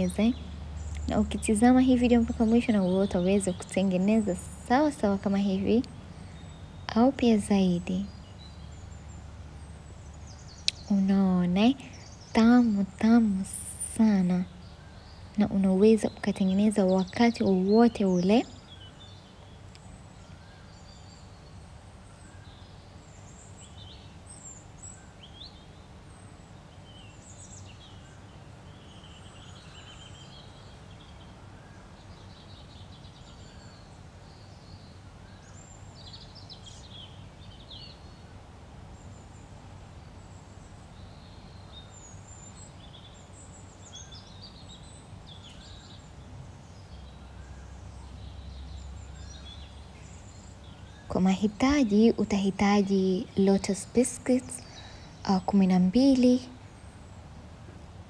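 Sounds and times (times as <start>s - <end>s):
birds chirping: 0.0s - 58.0s
low ambient hum: 0.0s - 58.0s.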